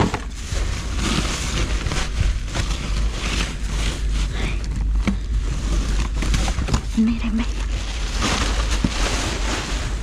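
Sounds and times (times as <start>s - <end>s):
rubbish bags rustling: 0.0s - 10.0s.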